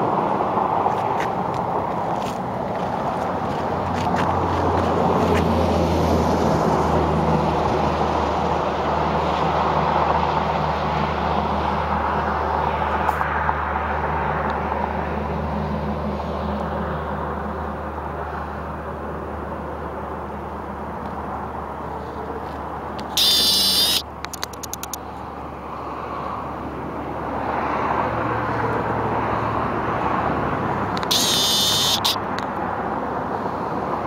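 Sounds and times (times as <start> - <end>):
highway traffic rumble: 0.0 - 34.0.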